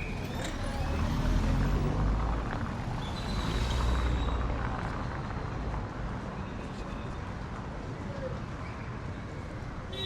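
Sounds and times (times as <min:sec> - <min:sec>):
city street traffic: 0:00.0 - 0:10.0.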